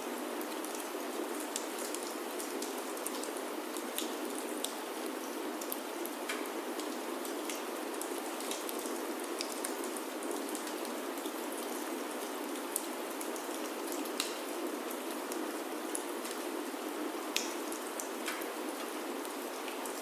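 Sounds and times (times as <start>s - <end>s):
rain on a wooden roof: 0.0s - 20.0s.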